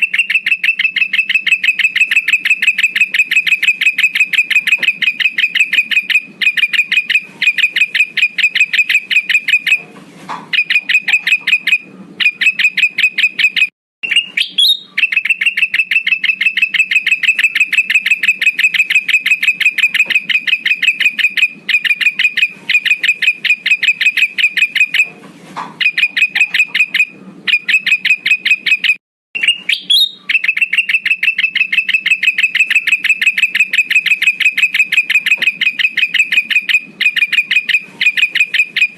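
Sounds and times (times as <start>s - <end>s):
bird calling in rapid trills: 0.0s - 9.8s, 10.5s - 25.1s, 25.8s - 38.9s.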